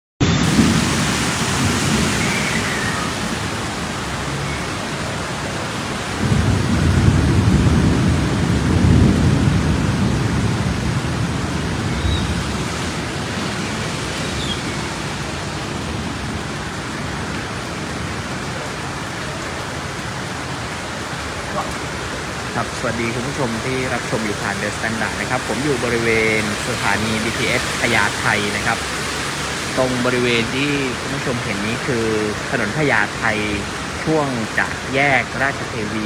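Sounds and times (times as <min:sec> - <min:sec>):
heavy rain hissing: 0:00.2 - 0:36.0.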